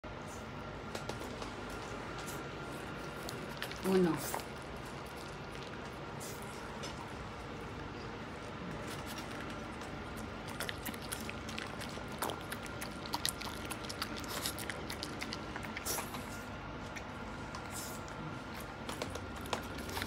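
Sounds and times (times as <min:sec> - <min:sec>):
dog licking and chewing: 0:01.0 - 0:20.0.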